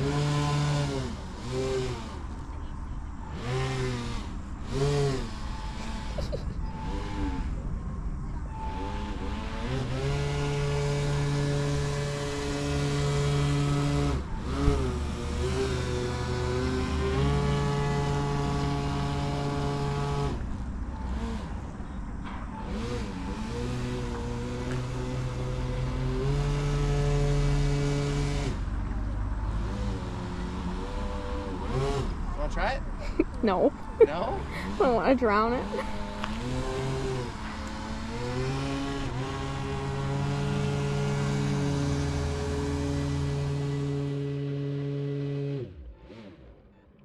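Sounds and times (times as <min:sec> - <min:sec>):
model airboat motor whirring: 0:00.0 - 0:07.6, 0:08.5 - 0:21.8, 0:22.6 - 0:32.8, 0:33.5 - 0:46.6.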